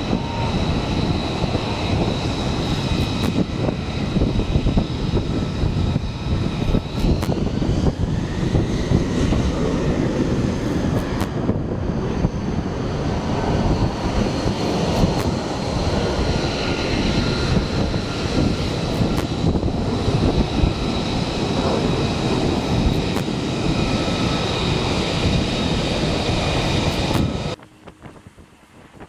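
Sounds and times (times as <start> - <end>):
jet engine roaring: 0.0 - 29.0.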